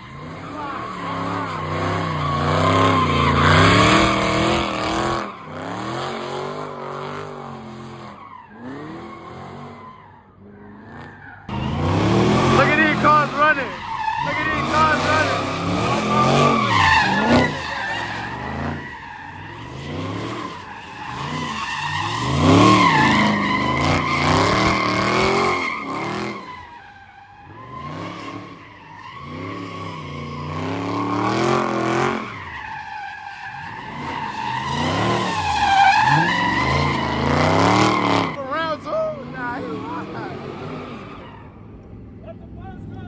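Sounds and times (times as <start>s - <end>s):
car engine revving: 0.0s - 43.0s
car tires squealing: 0.0s - 43.0s.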